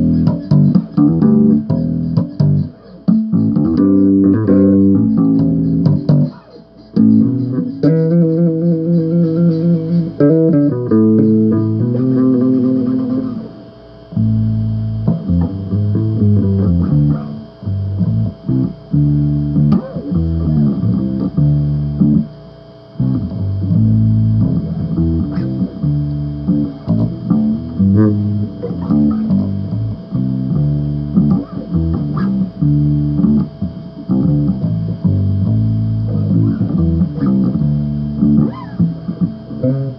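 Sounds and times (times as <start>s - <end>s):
bass guitar playing: 0.0s - 39.9s.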